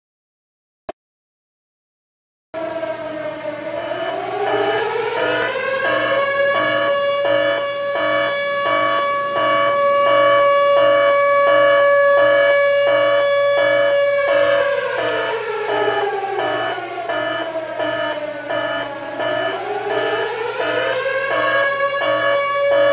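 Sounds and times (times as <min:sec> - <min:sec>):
pulsing alarm tone: 0:02.6 - 0:22.9
wailing siren: 0:02.6 - 0:22.9.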